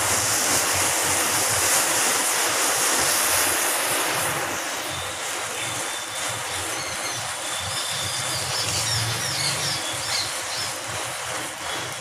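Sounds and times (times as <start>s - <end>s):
fire hissing and rumbling: 0.0s - 12.0s.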